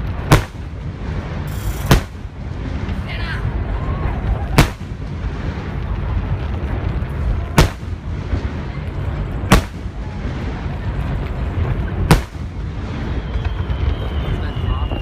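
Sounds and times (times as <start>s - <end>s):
fireworks booming: 0.0s - 15.0s
low rumble: 0.0s - 15.0s.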